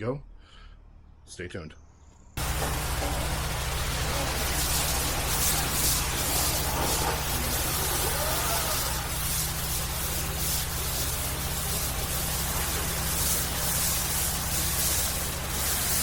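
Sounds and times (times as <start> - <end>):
engine droning: 2.4 - 16.0
steady hiss: 2.4 - 16.0.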